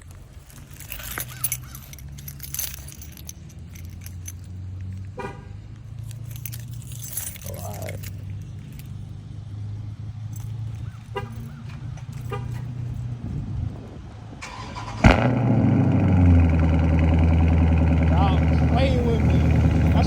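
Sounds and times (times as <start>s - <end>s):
car engine bark and idle: 0.0s - 20.0s.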